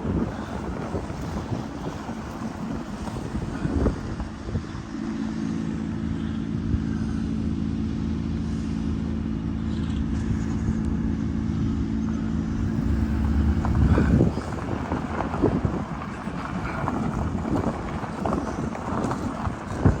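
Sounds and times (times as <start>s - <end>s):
wind rumbling on microphone: 0.0s - 7.7s, 9.8s - 20.0s
vehicle engine running: 0.1s - 20.0s.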